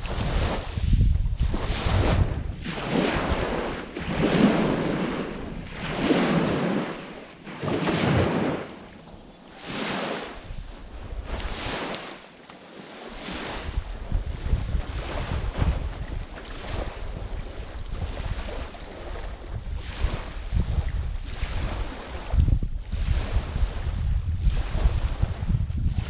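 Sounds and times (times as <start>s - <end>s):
wind buffeting microphone: 0.0s - 11.9s, 13.1s - 26.0s
waves washing on pebbly shore: 0.0s - 25.3s.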